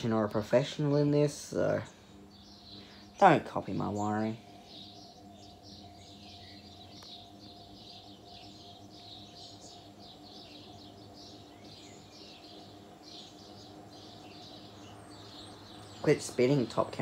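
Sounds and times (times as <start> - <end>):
birds chirping: 0.0 - 17.0
ceiling fan motor hum: 0.0 - 17.0.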